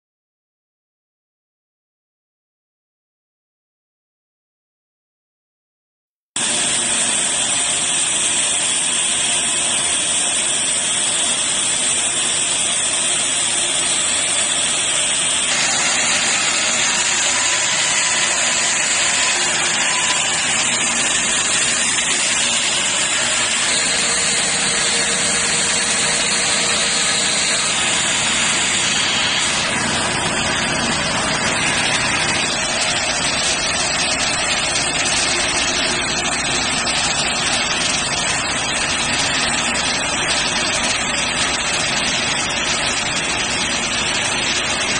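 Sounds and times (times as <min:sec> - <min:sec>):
machinery droning: 0:06.4 - 0:44.9.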